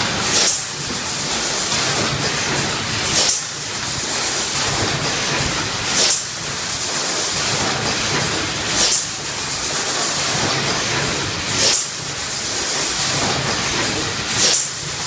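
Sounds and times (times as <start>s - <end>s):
blow molding machine running: 0.0s - 15.0s.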